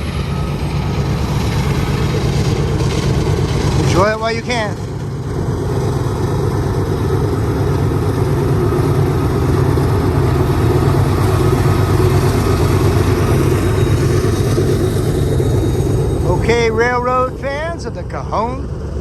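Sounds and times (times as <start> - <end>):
diesel locomotive engines droning: 0.0 - 19.0.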